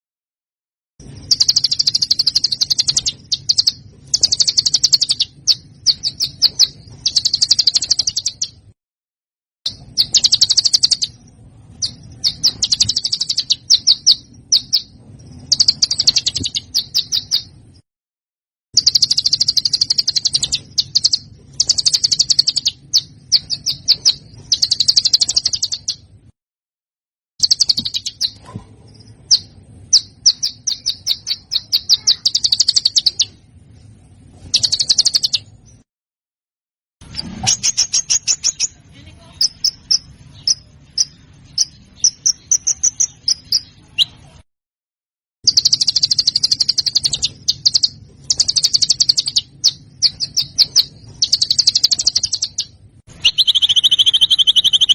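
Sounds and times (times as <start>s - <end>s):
songbird trills and chattering: 1.2s - 8.6s, 9.7s - 11.2s, 11.8s - 17.5s, 18.8s - 26.1s, 27.4s - 28.4s, 29.1s - 33.4s, 34.6s - 35.5s, 37.1s - 44.2s, 45.5s - 54.9s.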